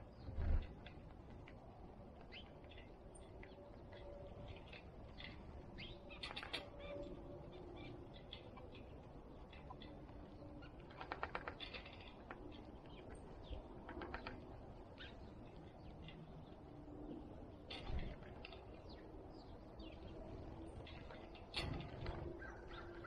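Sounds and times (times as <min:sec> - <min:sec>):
small birds chirping: 0:02.2 - 0:23.0.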